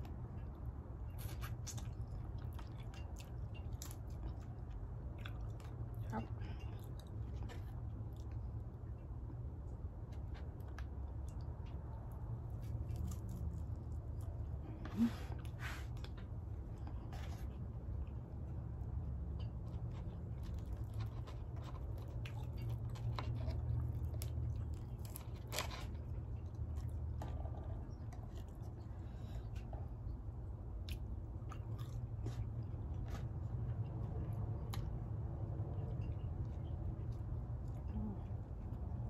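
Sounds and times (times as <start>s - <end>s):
low steady hum: 0.0s - 39.0s
person chewing crunchy food: 0.0s - 39.0s.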